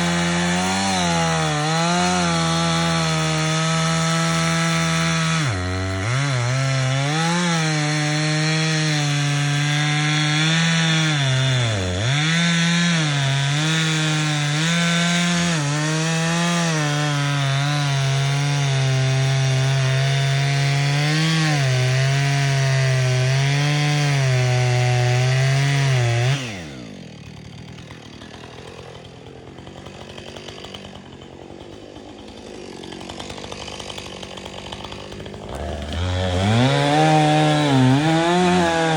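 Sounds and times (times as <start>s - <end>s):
chainsaw cutting tree trunk: 0.0s - 38.9s.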